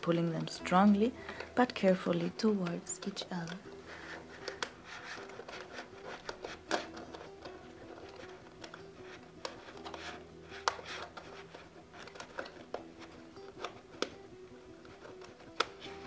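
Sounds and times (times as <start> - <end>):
plastic sheets rustling and clicking: 0.0 - 16.0
soft background music: 0.0 - 16.0.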